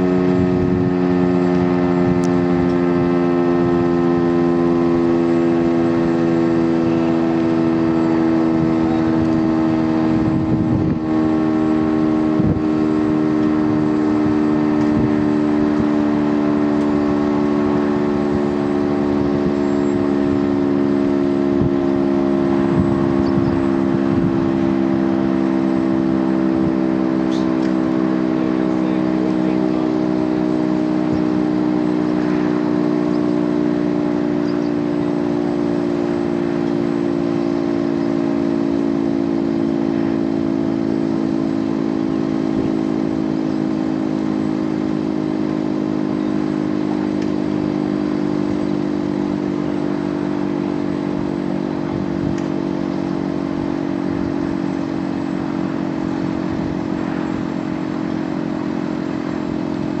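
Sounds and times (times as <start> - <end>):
warning siren steady tone: 0.0 - 60.0.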